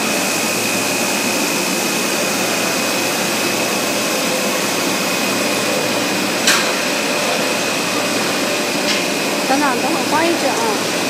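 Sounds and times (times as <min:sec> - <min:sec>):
machine hiss with high whine: 0:00.0 - 0:11.0.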